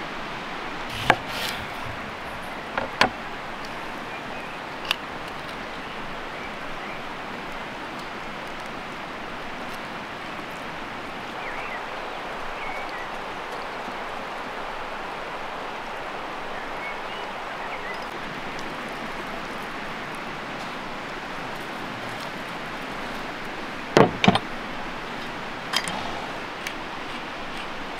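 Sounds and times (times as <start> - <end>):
creek water rushing: 0.0 - 27.9.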